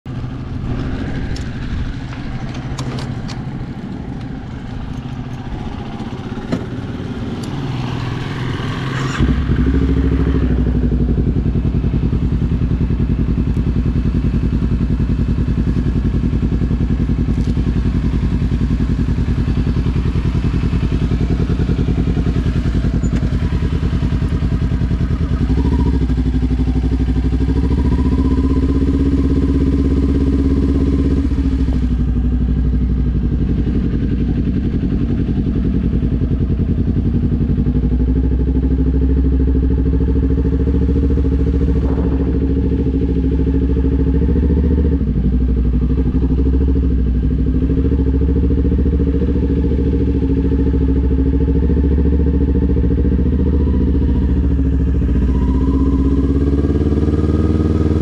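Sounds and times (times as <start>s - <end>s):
motorcycle engine idling: 0.1s - 58.0s.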